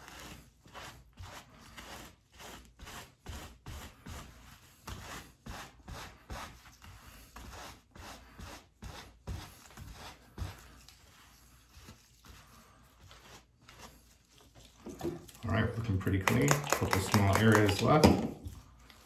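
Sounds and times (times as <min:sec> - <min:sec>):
cloth scrubbing back and forth: 0:00.0 - 0:19.0.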